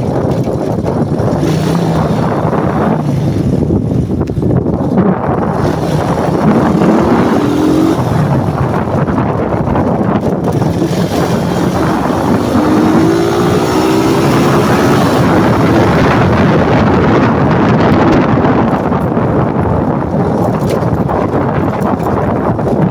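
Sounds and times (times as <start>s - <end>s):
motorcycle engine accelerating: 0.0s - 22.9s
wind rush on microphone: 0.0s - 22.9s.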